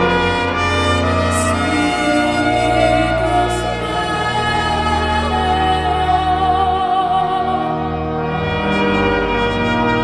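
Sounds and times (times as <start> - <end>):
low sustained accompaniment: 0.0 - 10.0.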